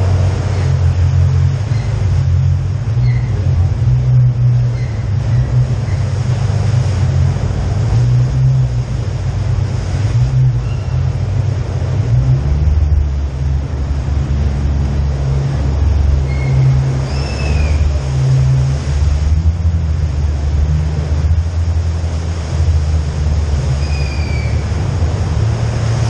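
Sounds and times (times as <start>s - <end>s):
engine low rumble: 0.0s - 26.0s.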